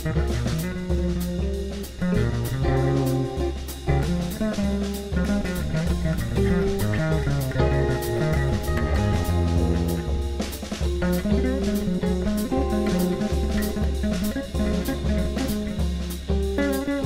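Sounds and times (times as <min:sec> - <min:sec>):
drum kit: 0:00.0 - 0:17.0
electric bass: 0:00.0 - 0:17.0
guitar playing melodic lines: 0:00.0 - 0:17.0.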